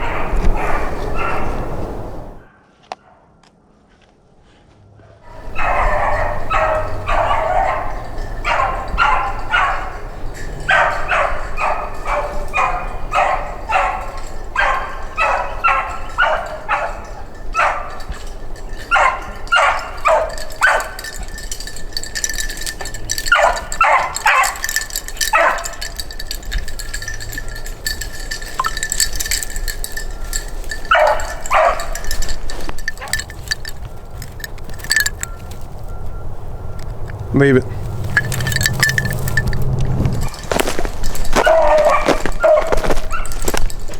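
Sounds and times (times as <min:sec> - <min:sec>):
dog baying: 0:00.0 - 0:01.7, 0:05.2 - 0:36.1, 0:37.6 - 0:43.9.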